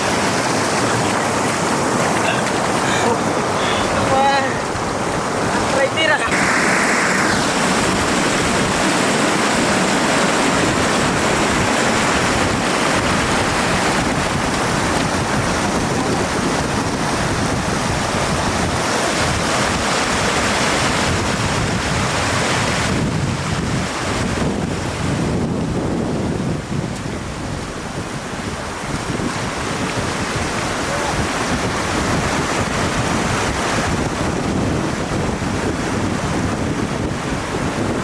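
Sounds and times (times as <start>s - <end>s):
floodwater rushing: 0.0s - 38.0s.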